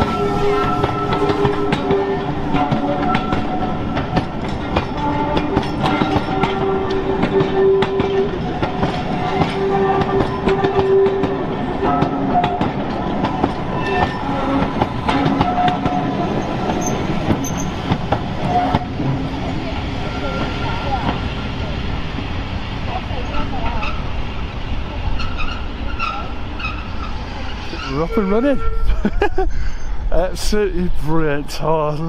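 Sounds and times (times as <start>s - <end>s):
wheels clanking over rails: 0.0s - 28.4s
steam train rolling past: 0.0s - 32.0s.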